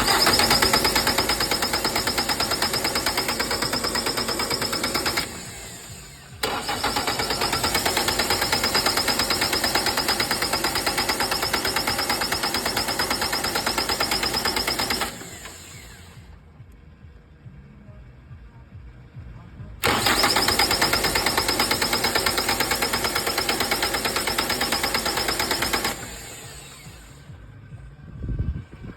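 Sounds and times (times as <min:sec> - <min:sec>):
tractor engine cranking: 0:00.0 - 0:16.2, 0:19.8 - 0:27.3.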